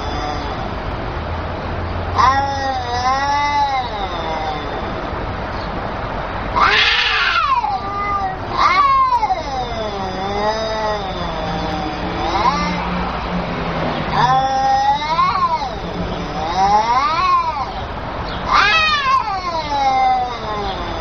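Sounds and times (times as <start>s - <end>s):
cat growling: 0.0s - 0.8s, 2.1s - 5.4s, 6.5s - 21.0s
cats yowling: 0.0s - 1.1s, 2.0s - 21.0s.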